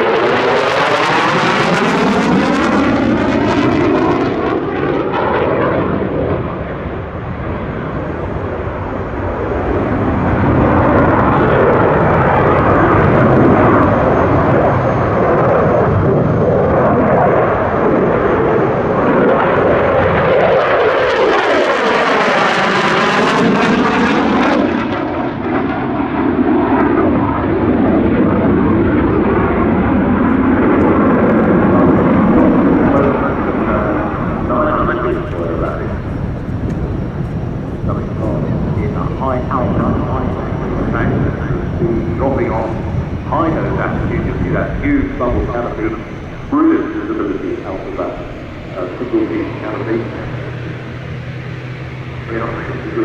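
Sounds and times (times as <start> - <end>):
jet passing phasing sweep: 0.0 - 25.8, 27.0 - 53.0
jet engine roar: 0.0 - 53.0.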